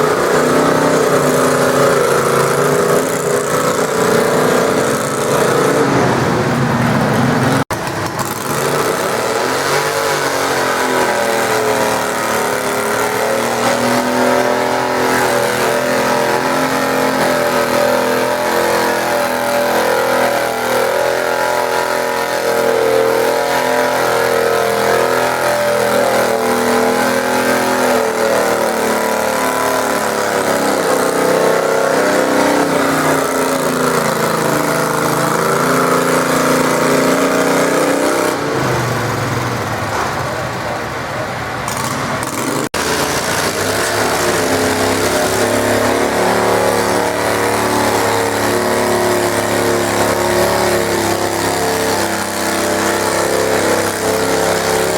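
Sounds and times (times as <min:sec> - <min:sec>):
garden tractor engine under load: 0:00.0 - 0:54.9.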